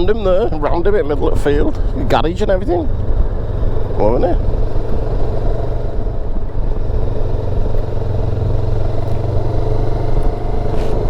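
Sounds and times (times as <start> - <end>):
motorcycle engine cruising: 0.0 - 11.0
wind rumble on microphone: 0.0 - 11.0.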